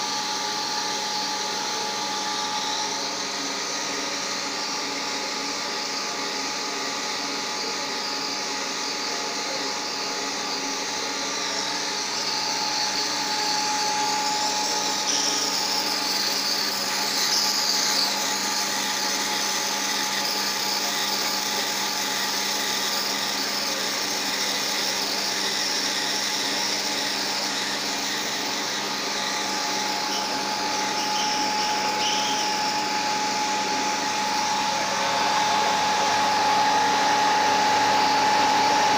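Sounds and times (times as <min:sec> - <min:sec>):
high machine whine: 0:00.0 - 0:38.9
slitter-rewinder machine whirring hum: 0:00.0 - 0:38.9.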